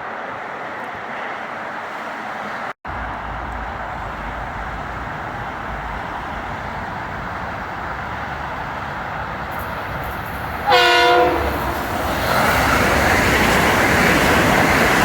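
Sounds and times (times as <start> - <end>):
rumbling vehicle noise: 2.5 - 15.0.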